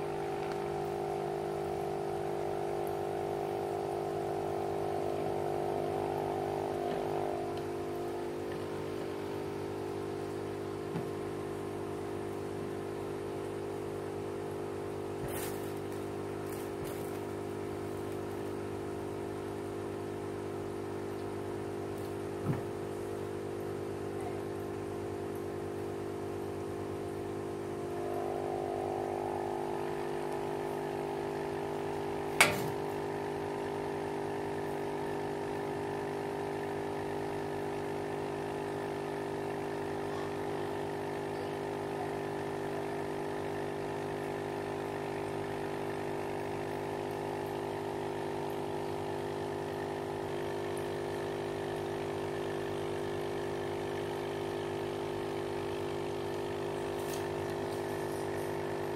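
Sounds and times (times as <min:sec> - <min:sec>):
aquarium pump humming: 0:00.0 - 0:58.9.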